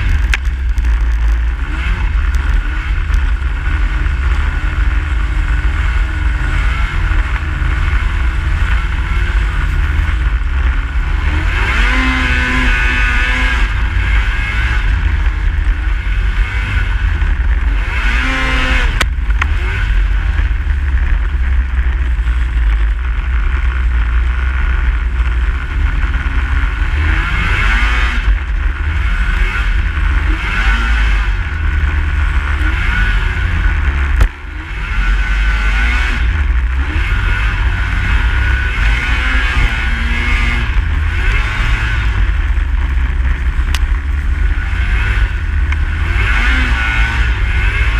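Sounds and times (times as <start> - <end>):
snowmobile engine revving: 0.0 - 47.9.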